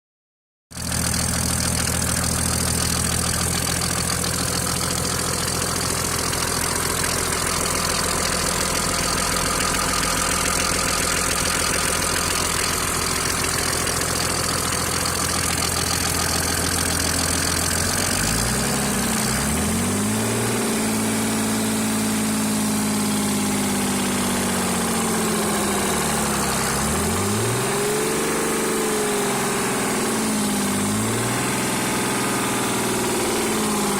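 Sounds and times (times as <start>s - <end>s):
diesel engine idling and revving: 0.7s - 33.9s
engine knock: 0.7s - 33.9s.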